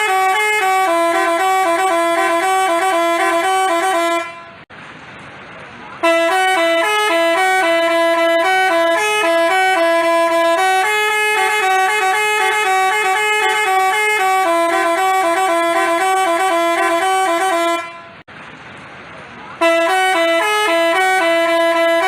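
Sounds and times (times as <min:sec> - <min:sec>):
multi-tone bus horn tune: 0:00.0 - 0:04.7, 0:06.0 - 0:18.3, 0:19.6 - 0:22.0.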